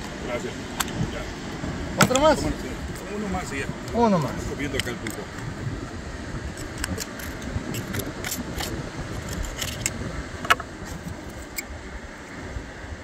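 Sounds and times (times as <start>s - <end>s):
surf rushing: 0.0s - 13.0s
wind: 0.0s - 13.0s.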